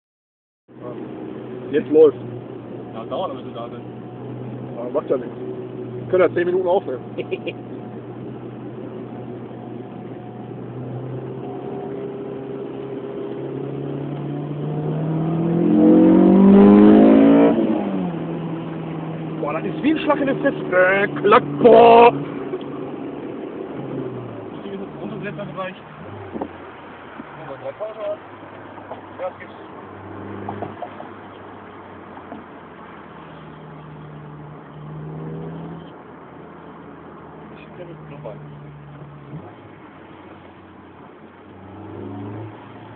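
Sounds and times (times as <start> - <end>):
car engine revving: 0.8 - 42.9.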